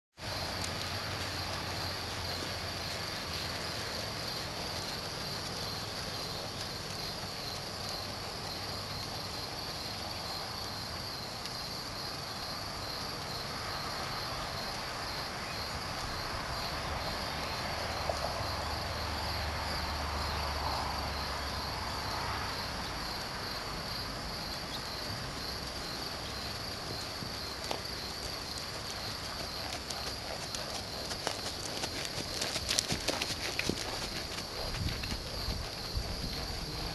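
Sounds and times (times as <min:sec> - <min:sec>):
crickets chirping: 0:00.2 - 0:36.9.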